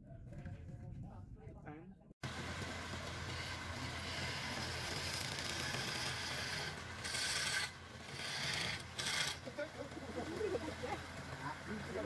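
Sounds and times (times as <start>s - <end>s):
lathe motor low hum: 2.2s - 12.0s
lathe tool scraping wood: 2.3s - 12.0s.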